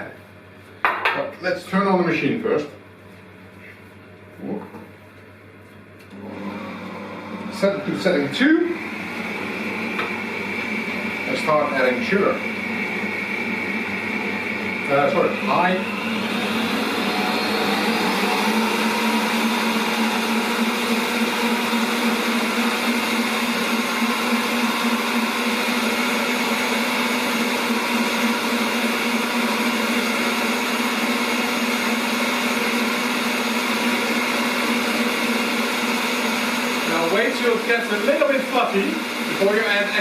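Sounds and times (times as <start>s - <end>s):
stand mixer whirring: 6.1s - 40.0s.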